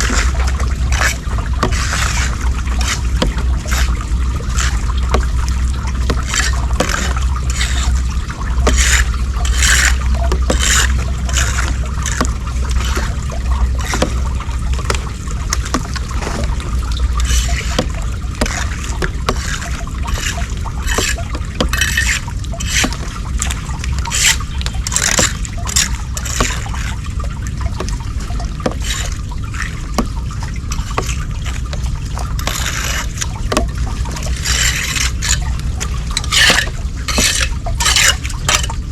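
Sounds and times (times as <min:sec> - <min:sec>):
steady low rumble: 0:00.0 - 0:38.9
water trickling and splashing at drain: 0:00.0 - 0:38.9.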